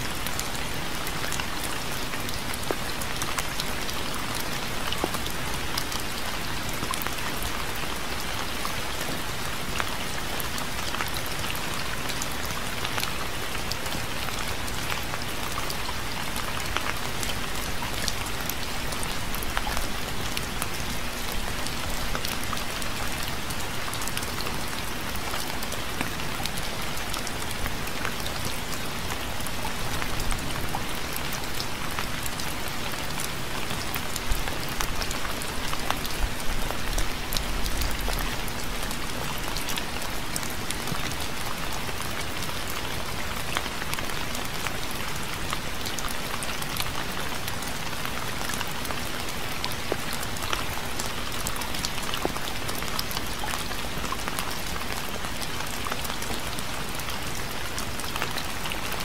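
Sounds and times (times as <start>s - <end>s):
raindrops pattering: 0.0s - 59.0s
steady rain hiss: 0.0s - 59.0s.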